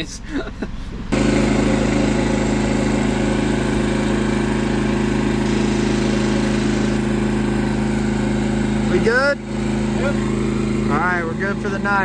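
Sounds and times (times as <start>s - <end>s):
generator engine running: 0.8s - 12.0s.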